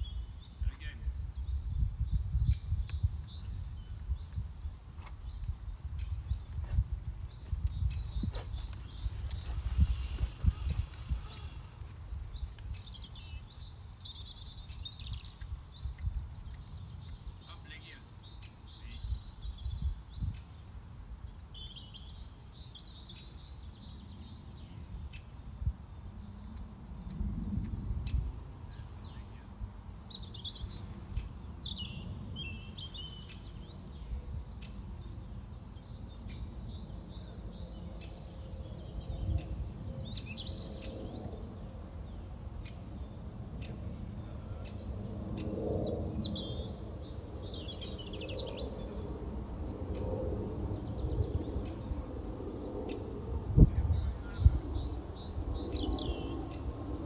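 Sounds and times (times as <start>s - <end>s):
birds chirping and singing: 0.0s - 27.1s, 27.9s - 49.2s, 49.8s - 57.0s.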